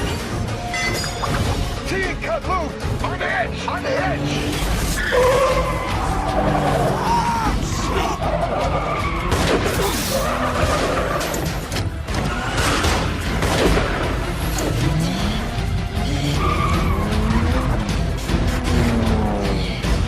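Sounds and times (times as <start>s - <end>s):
car engines revving: 2.7s - 20.0s.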